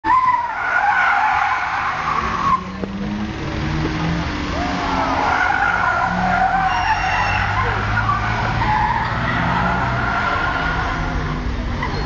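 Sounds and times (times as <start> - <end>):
car tyres squealing: 0.0 - 12.0
car engine running: 1.8 - 11.7.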